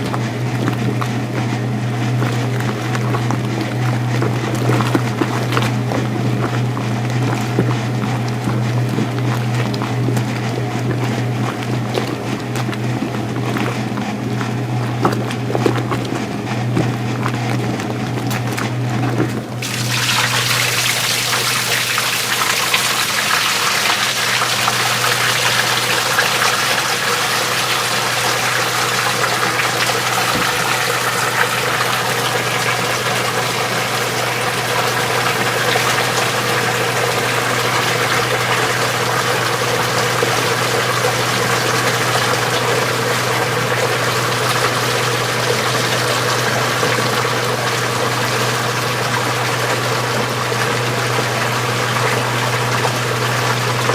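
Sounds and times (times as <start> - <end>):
washing machine motor hum: 0.0 - 53.9
water churning in tub: 0.0 - 53.9.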